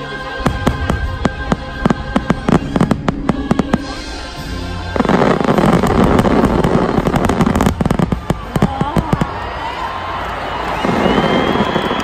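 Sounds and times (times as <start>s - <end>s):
fireworks crackling burst: 0.0s - 12.0s
music: 0.0s - 12.0s
fireworks bangs: 0.4s - 9.9s, 10.6s - 12.0s.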